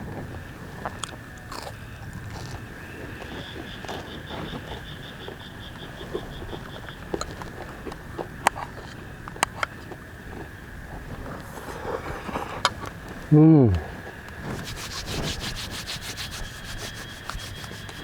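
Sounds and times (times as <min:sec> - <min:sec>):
high insect drone: 0:00.0 - 0:18.0
rapid pulsing insect call: 0:00.0 - 0:18.0
person chewing crunchy food: 0:00.7 - 0:13.8, 0:14.4 - 0:18.0.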